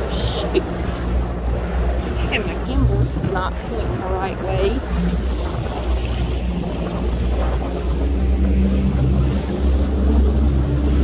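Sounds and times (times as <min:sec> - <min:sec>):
motorboat engine drone: 0:00.0 - 0:11.0
passing boat humming: 0:00.0 - 0:11.0.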